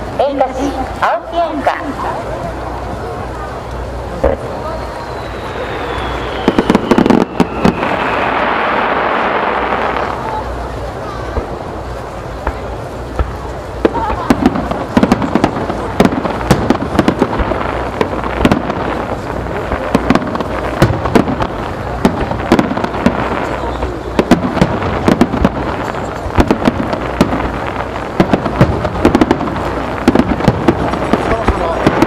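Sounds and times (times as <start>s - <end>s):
continuous background noise: 0.0s - 32.0s
fireworks bangs and crackles: 0.0s - 32.0s.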